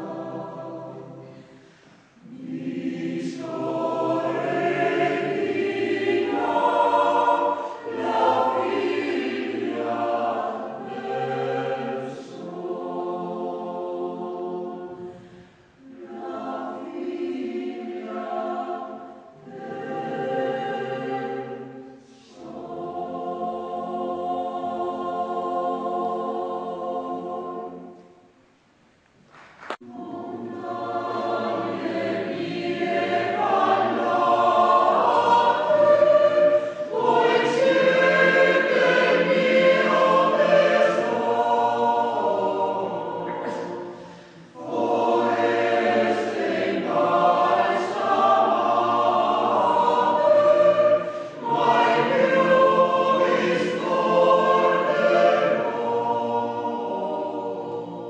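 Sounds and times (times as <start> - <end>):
mixed choir singing: 0.0 - 28.3, 29.8 - 58.0.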